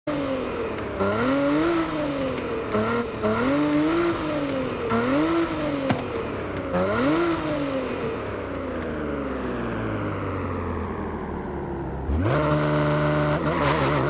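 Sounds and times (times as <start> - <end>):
car engine revving: 0.1 - 14.0.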